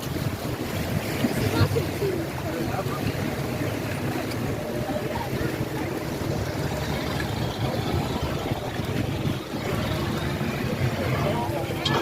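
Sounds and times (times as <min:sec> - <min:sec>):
churning water rushing: 0:00.0 - 0:12.0.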